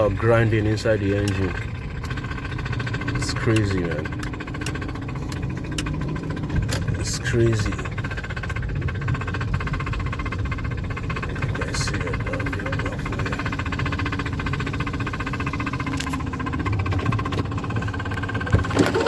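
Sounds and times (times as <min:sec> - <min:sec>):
car engine running: 0:00.0 - 0:19.0
rapid knocking inside engine: 0:00.0 - 0:19.0.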